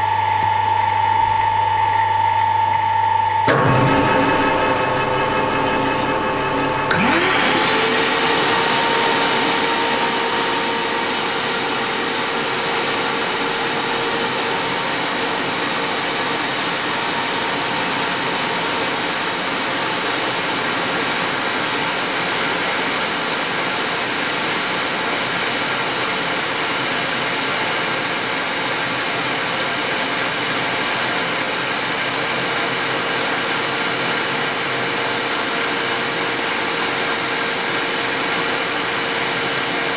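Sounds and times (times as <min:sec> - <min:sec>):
metal lathe motor whine: 0:00.0 - 0:39.9.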